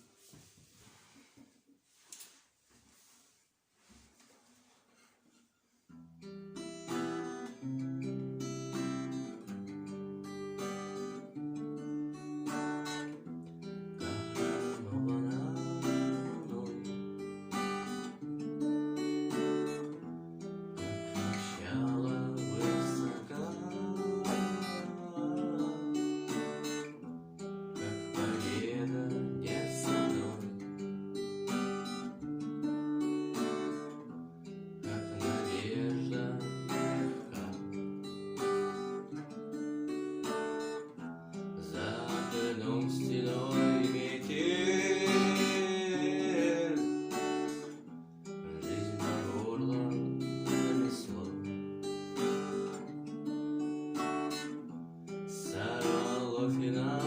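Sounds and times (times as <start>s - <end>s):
acoustic guitar strumming chords: 6.0s - 57.0s.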